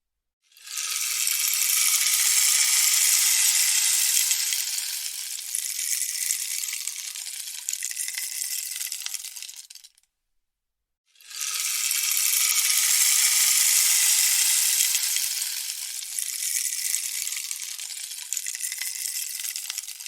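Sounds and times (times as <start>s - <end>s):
rainstick beads trickling: 0.6s - 10.0s, 11.2s - 20.0s.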